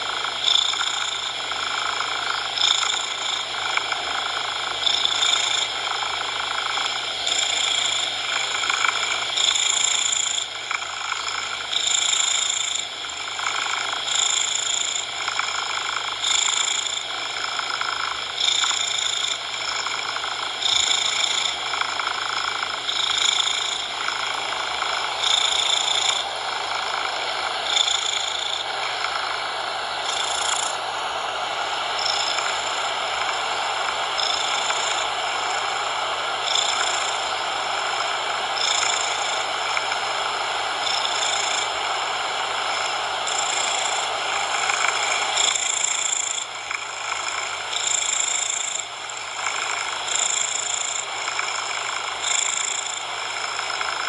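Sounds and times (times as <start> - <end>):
cat purring: 0.0 - 54.0
steady hiss: 0.0 - 54.0.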